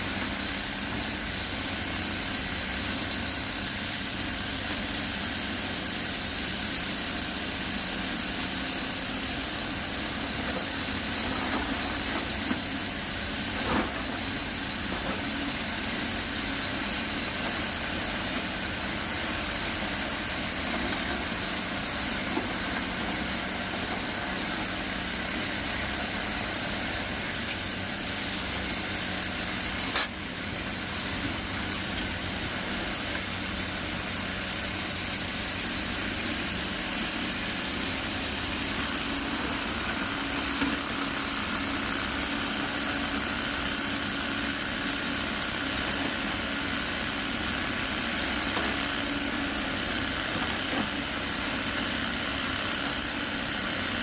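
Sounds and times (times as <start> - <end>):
excavator diesel engine running: 0.0 - 54.0
hissing noise: 0.1 - 44.5.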